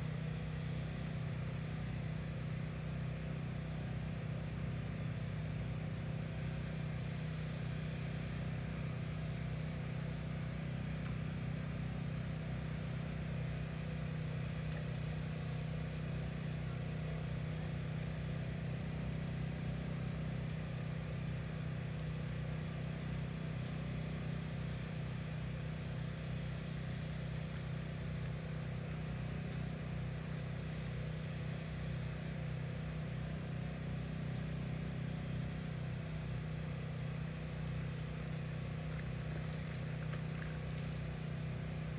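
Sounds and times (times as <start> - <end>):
low motor hum: 0.0 - 41.9.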